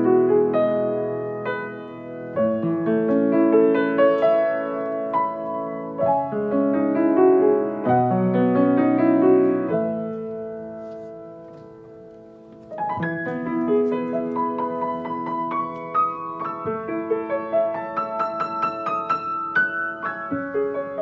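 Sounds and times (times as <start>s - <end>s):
piano playing chords and melody: 0.0s - 21.0s.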